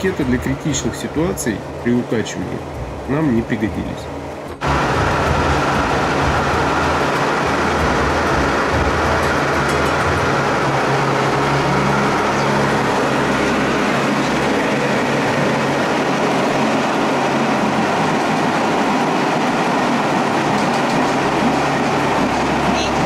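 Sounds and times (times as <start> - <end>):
turboprop engine drone in cabin: 0.0 - 23.0.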